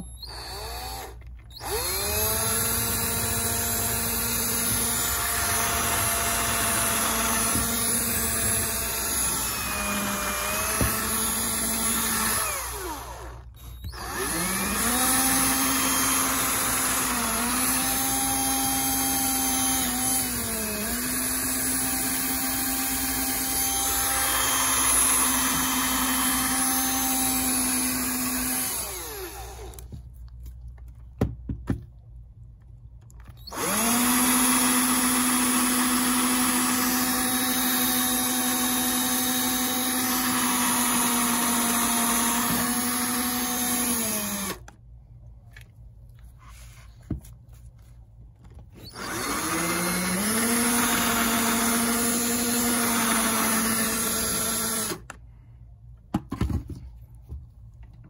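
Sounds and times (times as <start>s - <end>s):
cordless drill whining: 0.0s - 30.0s, 33.2s - 44.7s, 48.6s - 55.2s.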